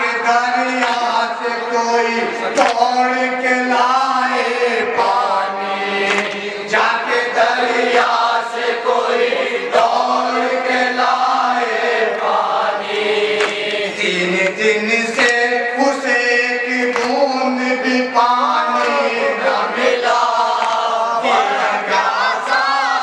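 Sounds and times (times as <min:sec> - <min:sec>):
men chanting a lament: 0:00.0 - 0:23.0.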